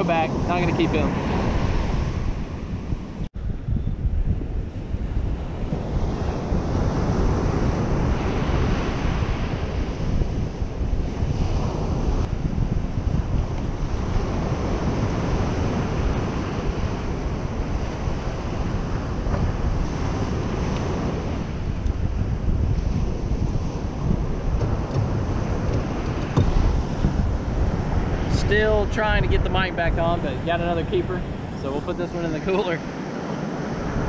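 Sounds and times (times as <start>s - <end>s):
wind buffeting microphone: 0.0s - 34.0s
surf breaking on beach: 4.9s - 34.0s.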